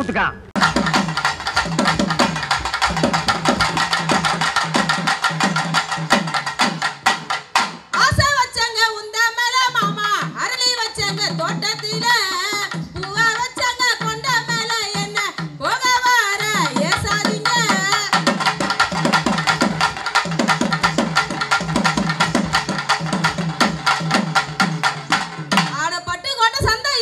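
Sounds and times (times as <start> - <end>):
fast barrel drum rhythm: 0.0 - 27.0.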